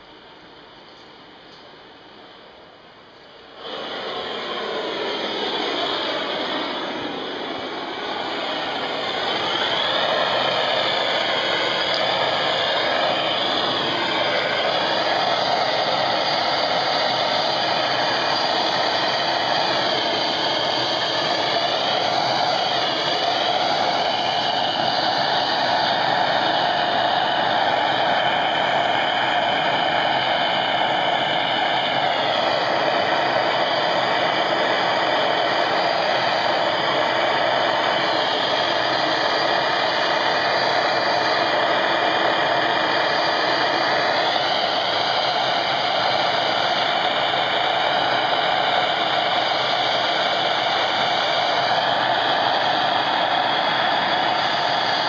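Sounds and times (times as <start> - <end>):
blowlamp flame hissing: 0.0 - 55.0.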